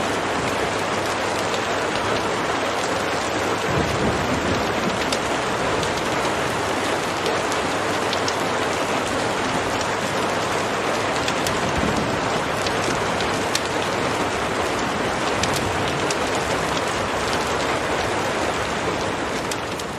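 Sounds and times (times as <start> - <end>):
heavy rain hissing: 0.0 - 19.9
individual raindrop ticks: 0.4 - 19.9.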